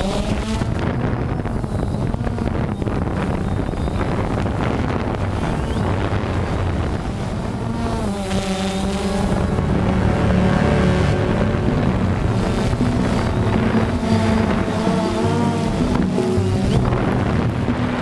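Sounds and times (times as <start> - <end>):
drone propellers buzzing: 0.0 - 18.0
wind rushing over microphone: 0.0 - 18.0.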